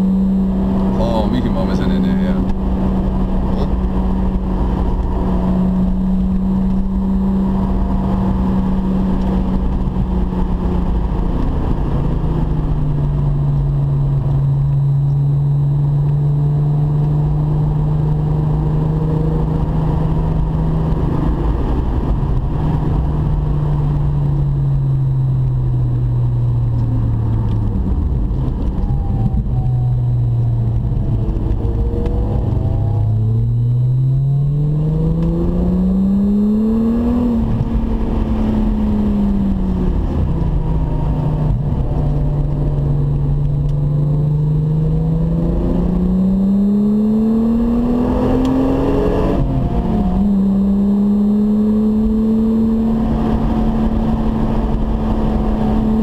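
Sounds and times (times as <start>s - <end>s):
car engine pulling: 0.0s - 56.0s
tyre and wind noise: 2.3s - 56.0s.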